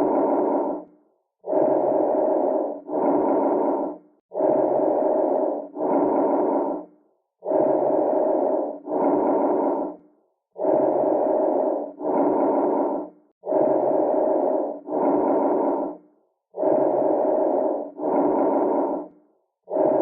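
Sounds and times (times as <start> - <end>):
lung breath sounds: 0.0 - 20.0.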